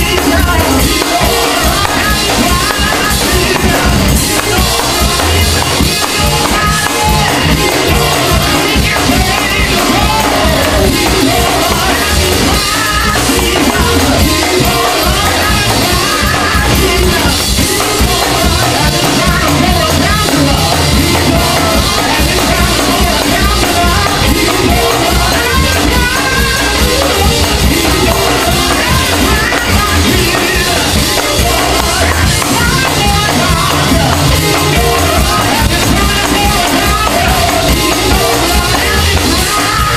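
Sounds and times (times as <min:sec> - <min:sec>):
drums: 0:00.0 - 0:39.9
keyboard: 0:00.0 - 0:39.9
people singing: 0:00.0 - 0:39.9.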